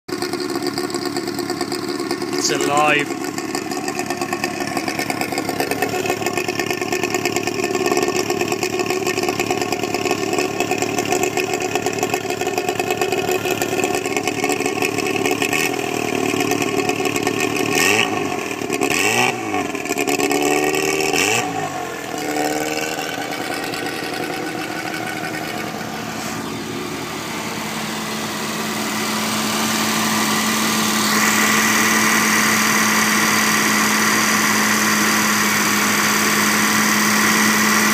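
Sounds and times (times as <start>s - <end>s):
car engine revving and idling: 0.1s - 37.9s.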